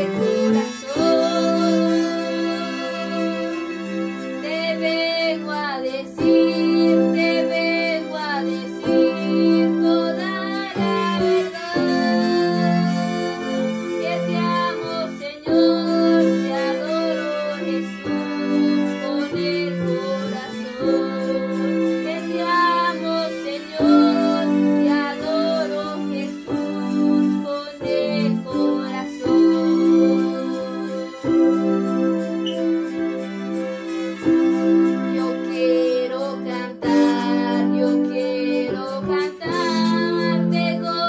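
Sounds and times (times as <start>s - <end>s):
girl singing: 0.0s - 3.7s, 4.4s - 31.5s, 35.1s - 41.0s
keyboard playing held chords: 0.0s - 41.0s.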